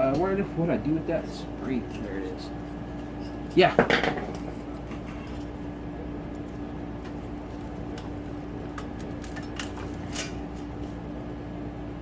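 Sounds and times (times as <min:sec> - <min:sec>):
low hum of fan or machine: 0:00.0 - 0:12.0.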